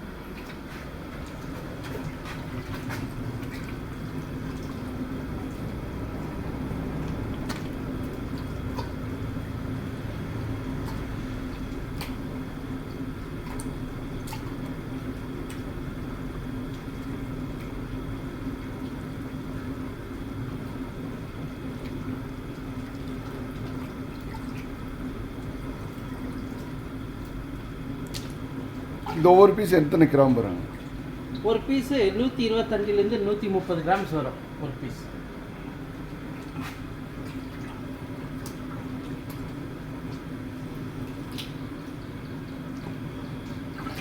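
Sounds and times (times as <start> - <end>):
pot boiling and bubbling: 0.0 - 44.0.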